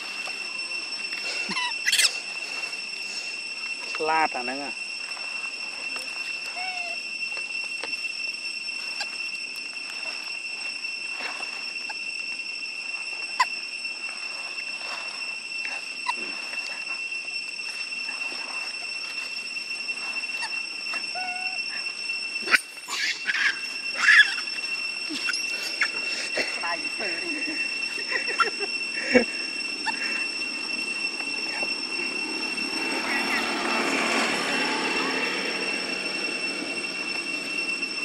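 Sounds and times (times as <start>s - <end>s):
high-pitched insect drone: 0.0s - 38.0s.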